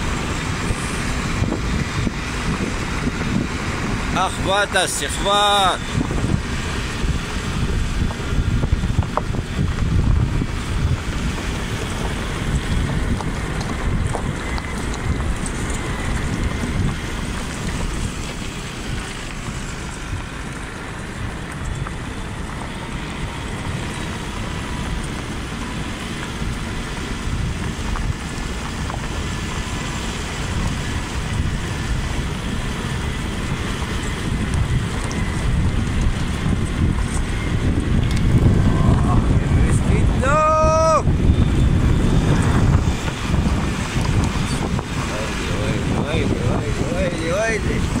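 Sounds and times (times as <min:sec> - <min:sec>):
wind noise on microphone: 0:00.0 - 0:48.0.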